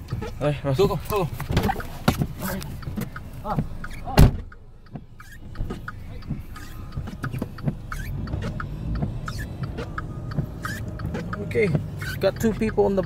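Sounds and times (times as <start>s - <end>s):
tyres squeaking and crunching in snow: 0.0s - 4.2s, 5.2s - 13.0s
car engine running at low revs: 0.0s - 13.0s.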